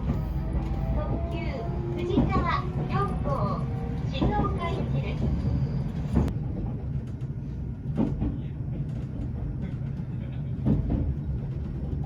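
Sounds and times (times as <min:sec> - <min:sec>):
train running low rumble: 0:00.0 - 0:12.0.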